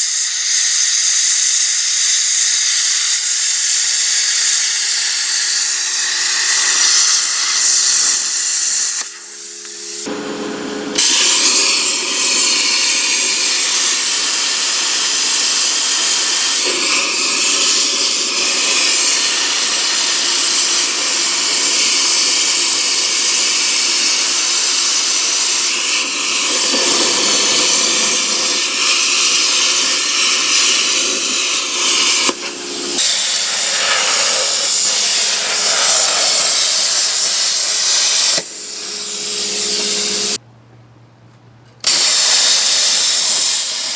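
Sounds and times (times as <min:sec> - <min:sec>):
plasma cutter hissing: 0:00.0 - 0:10.1, 0:10.9 - 0:40.4, 0:41.8 - 0:43.9.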